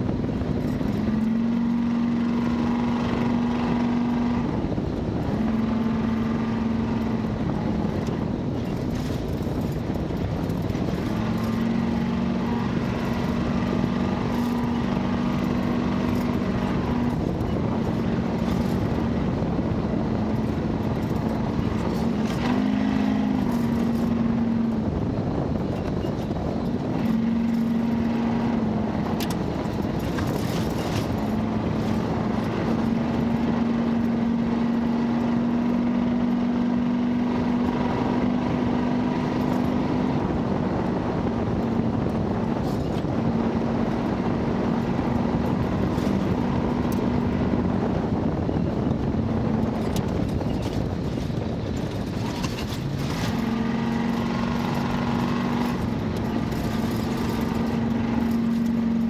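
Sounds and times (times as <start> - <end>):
car engine running under load: 0.0 - 59.0
tyre and wind noise: 0.0 - 59.0.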